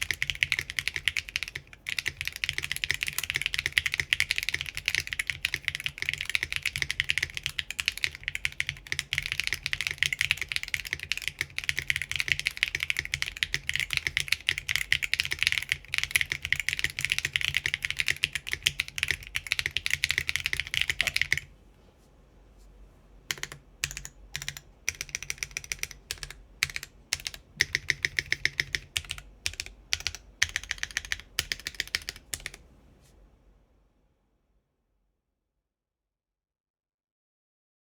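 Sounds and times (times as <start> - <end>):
mechanical keyboard typing: 0.0 - 21.5, 23.3 - 32.6.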